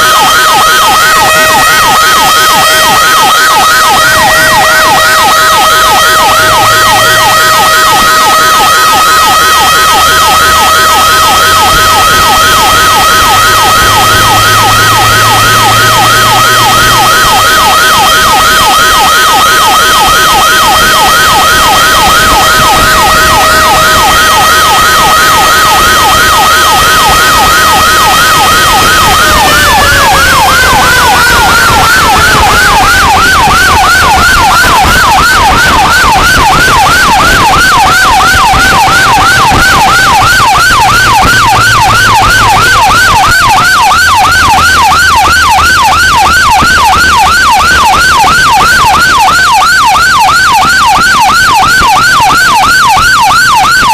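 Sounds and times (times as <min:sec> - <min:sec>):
electronic siren yelp: 0:00.0 - 0:53.9
steady siren tone: 0:00.0 - 0:53.9.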